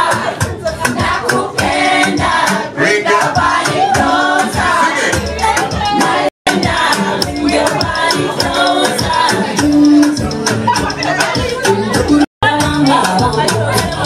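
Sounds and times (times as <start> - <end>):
upbeat dance music with singing: 0.0 - 14.0.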